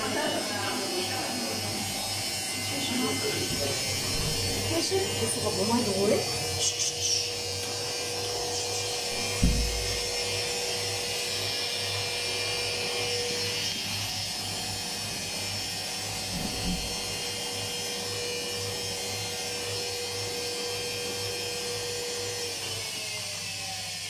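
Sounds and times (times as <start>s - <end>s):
washing machine spinning: 1.9s - 6.6s, 7.3s - 22.5s.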